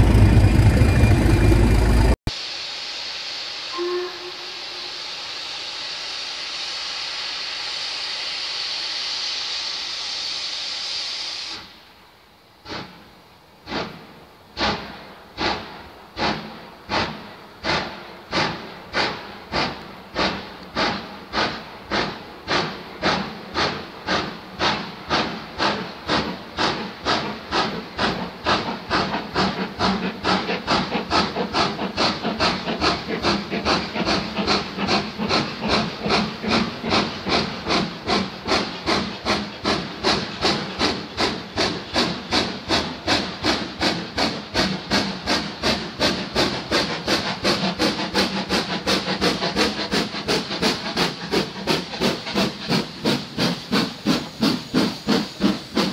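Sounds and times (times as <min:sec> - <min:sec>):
steam locomotive chuffing: 0:00.0 - 0:12.0, 0:12.6 - 0:55.9.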